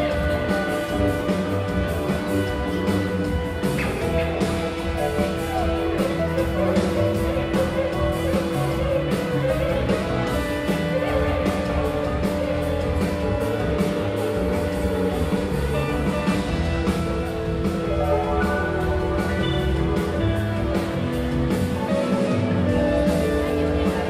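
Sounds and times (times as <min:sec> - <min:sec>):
rock band playing: 0:00.0 - 0:24.0.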